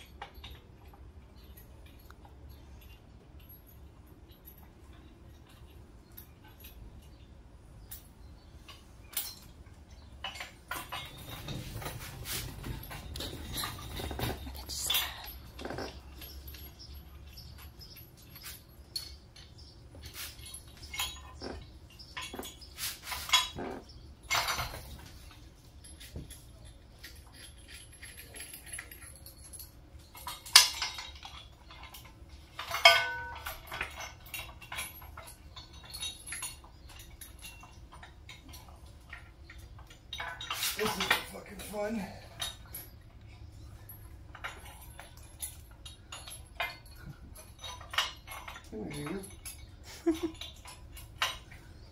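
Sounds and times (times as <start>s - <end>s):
ringing metallic clanks: 0.0s - 51.9s
tools clinking against metal: 0.0s - 51.9s.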